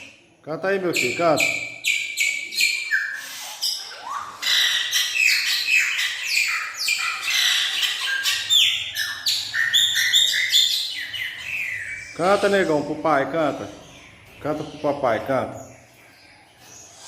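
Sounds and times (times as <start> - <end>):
blackbird singing: 0.0 - 17.0.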